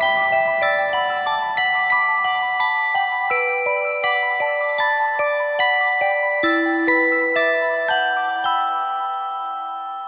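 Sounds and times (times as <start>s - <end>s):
bell-like music notes: 0.0s - 10.0s.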